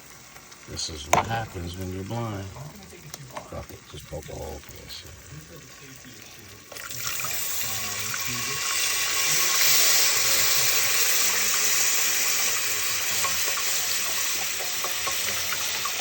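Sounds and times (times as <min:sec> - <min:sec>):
liquid pouring into a pan: 0:00.0 - 0:16.0.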